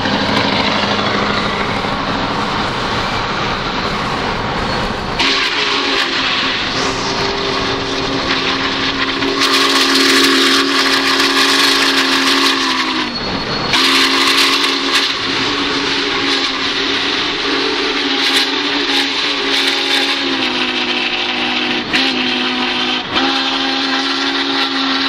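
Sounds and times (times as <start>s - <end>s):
steady rushing noise: 0.0s - 20.4s
chime steam whistle blowing: 0.0s - 25.0s.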